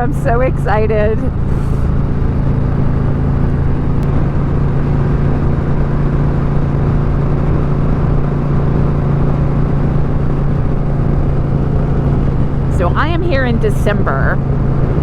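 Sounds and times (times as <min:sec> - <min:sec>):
motorcycle engine cruising: 0:00.0 - 0:15.0
wind and road noise rumble: 0:00.0 - 0:15.0.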